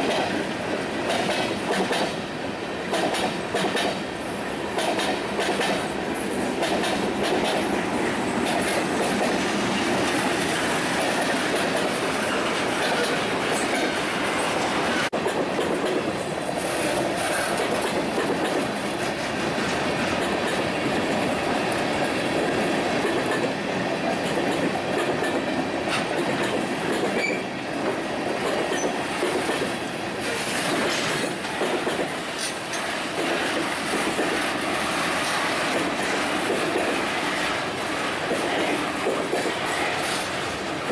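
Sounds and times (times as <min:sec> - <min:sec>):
train wheels clicking over rail joints: 0:00.0 - 0:02.2, 0:02.8 - 0:14.0, 0:14.8 - 0:40.9
train rolling rumble: 0:00.0 - 0:40.9.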